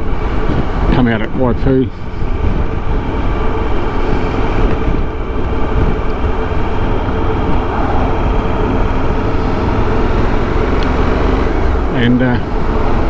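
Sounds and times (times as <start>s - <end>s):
steady hum: 0.0s - 13.0s
wind rushing over microphone: 0.0s - 13.0s
motorcycle engine: 2.0s - 13.0s.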